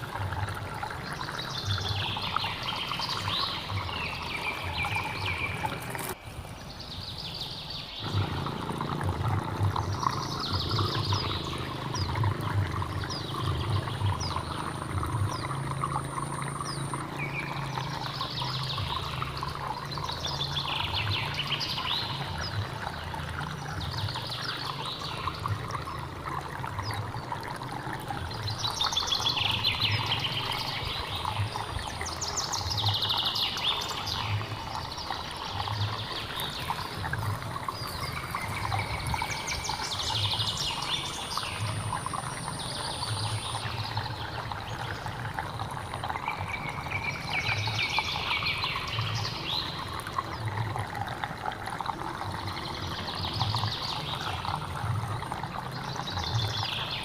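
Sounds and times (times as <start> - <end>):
birds chirping: 0.0 - 50.6
stream water burbling: 0.0 - 57.0.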